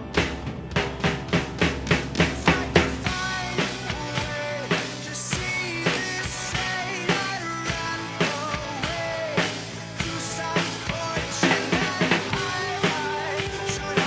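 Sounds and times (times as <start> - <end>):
drum kit: 0.0 - 14.0
person singing: 2.2 - 14.0.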